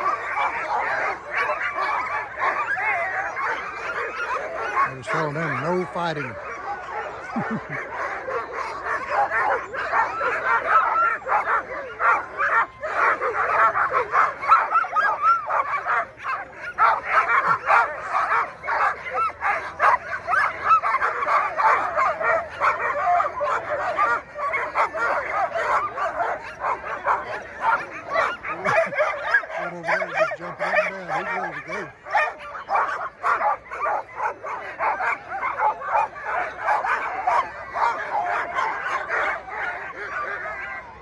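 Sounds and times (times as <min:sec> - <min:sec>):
dogs barking yipping and whining: 0:00.0 - 0:41.0.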